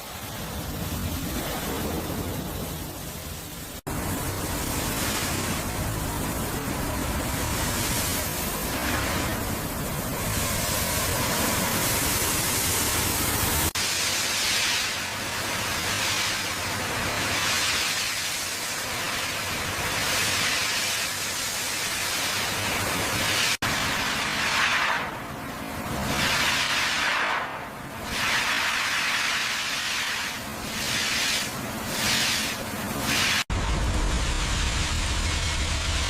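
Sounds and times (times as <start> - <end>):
loud hissing noise: 0.0 - 36.0.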